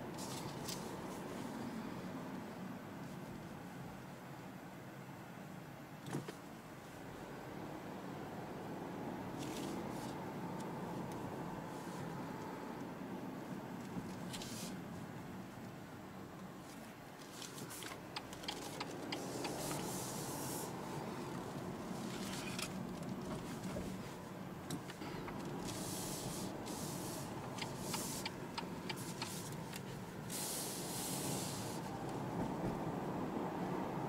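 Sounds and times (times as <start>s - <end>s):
tyre and road hiss: 0.0s - 4.3s, 9.2s - 34.0s
car engine running at low revs: 0.0s - 34.0s.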